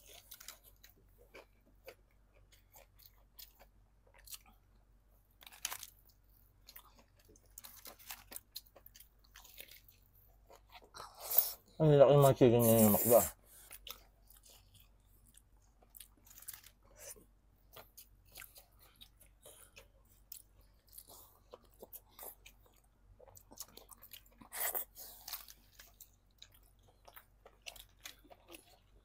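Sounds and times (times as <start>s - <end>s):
chewing crispy fried chicken: 0.0s - 29.0s.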